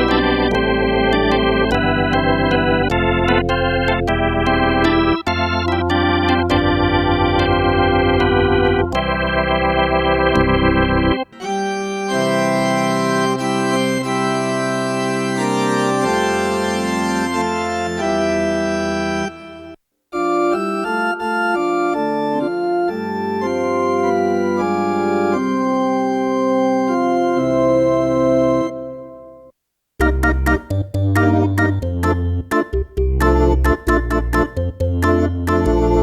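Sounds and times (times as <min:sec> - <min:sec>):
keyboard bass line: 0:00.0 - 0:29.3, 0:30.0 - 0:36.0
organ chords: 0:00.0 - 0:36.0.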